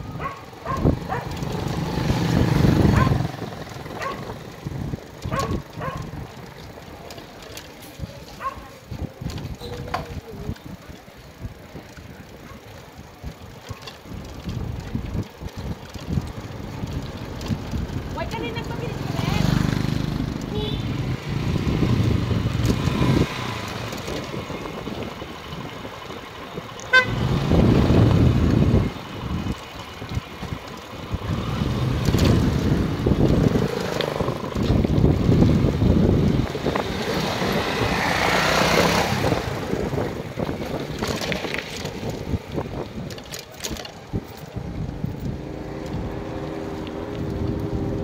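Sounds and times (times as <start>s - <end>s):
wind rushing over microphone: 0.0s - 6.5s, 13.0s - 48.0s.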